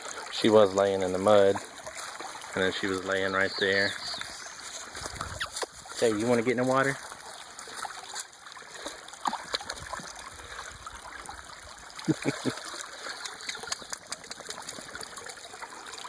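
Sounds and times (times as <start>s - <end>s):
creek trickling over stones: 0.0s - 16.0s
small water splashes: 0.0s - 16.0s.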